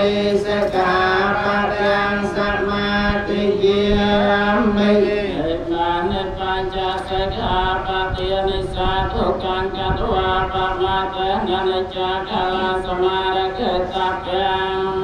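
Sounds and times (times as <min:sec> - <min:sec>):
monks chanting through microphone: 0:00.0 - 0:15.0.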